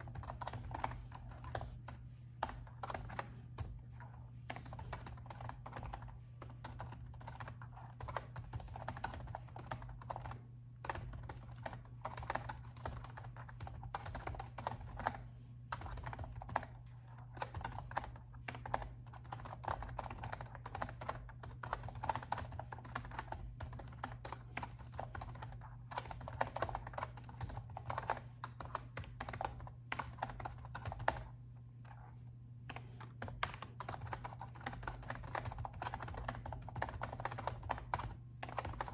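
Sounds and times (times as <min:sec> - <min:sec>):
faint low hum: 0:00.0 - 0:38.9
laptop keyboard typing: 0:00.0 - 0:38.9.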